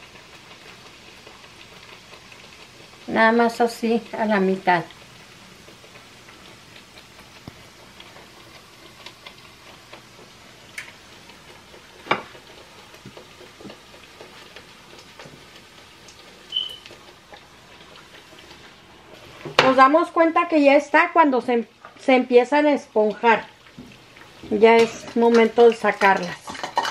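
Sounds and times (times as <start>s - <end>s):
hot oil crackling in a frying pan: 0.0s - 26.9s.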